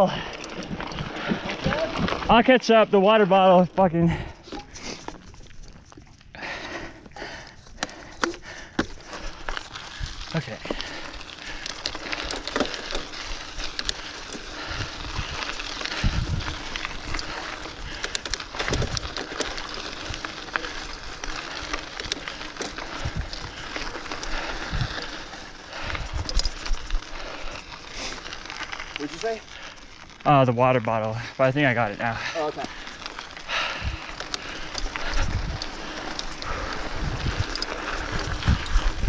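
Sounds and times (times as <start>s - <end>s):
bike clicks and rattles: 0.0s - 39.0s
bike tyres rolling over dirt: 0.0s - 39.0s.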